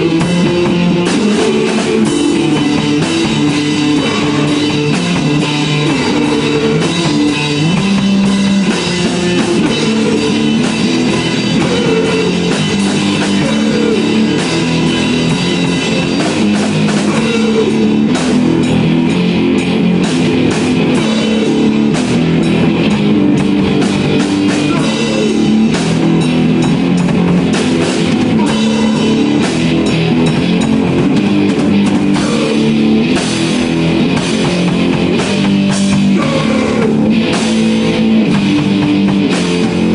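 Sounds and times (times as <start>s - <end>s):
drum kit with cymbals: 0.0s - 39.9s
electric guitar: 0.0s - 39.9s.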